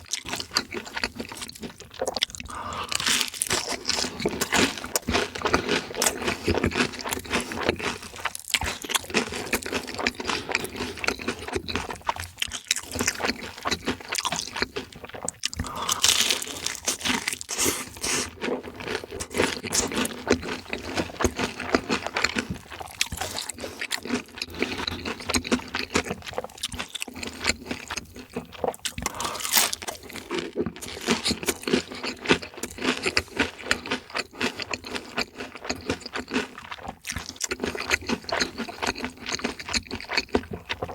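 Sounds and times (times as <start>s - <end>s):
crunching and chewing food: 0.0s - 40.9s.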